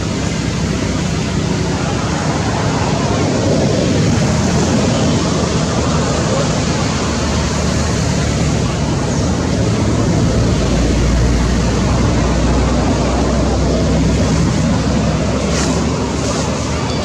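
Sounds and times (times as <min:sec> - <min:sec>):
loud rumbling noise with hiss: 0:00.0 - 0:17.0.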